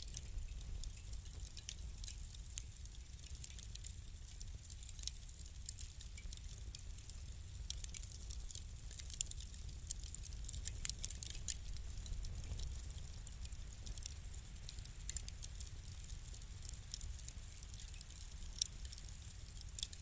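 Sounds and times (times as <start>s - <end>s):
low rumble of burning: 0.0s - 20.0s
wood fire crackling and popping: 0.0s - 20.0s.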